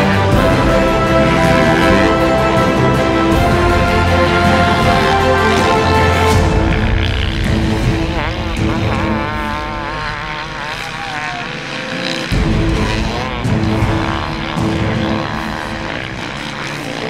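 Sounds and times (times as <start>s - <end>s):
motocross bikes revving: 0.0s - 17.0s
music: 0.0s - 17.0s.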